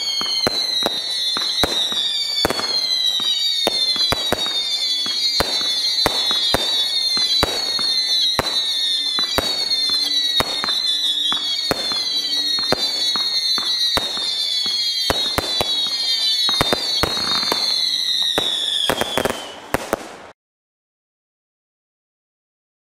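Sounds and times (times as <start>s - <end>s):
firework bangs: 0.0s - 20.4s
firework whistles: 0.0s - 20.4s.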